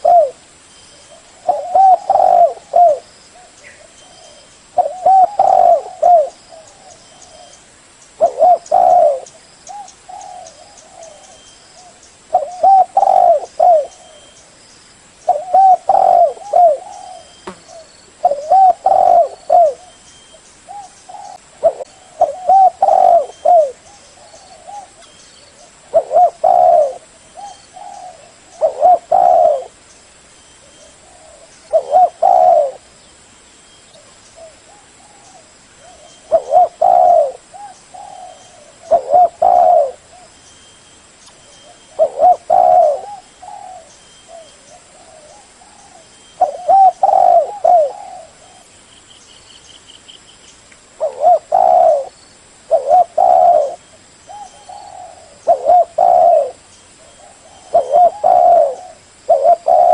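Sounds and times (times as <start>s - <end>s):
dove cooing: 0.0s - 0.5s, 1.1s - 7.6s, 8.2s - 14.4s, 15.3s - 20.0s, 20.7s - 29.8s, 30.7s - 32.9s, 34.0s - 40.3s, 41.5s - 48.7s, 51.0s - 59.9s.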